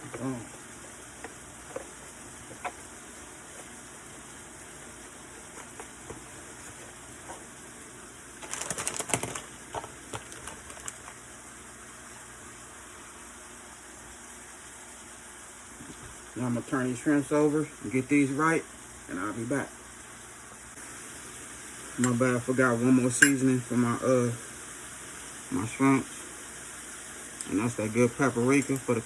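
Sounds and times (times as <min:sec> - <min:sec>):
shrimp sizzling in a frying pan: 0:00.0 - 0:29.0.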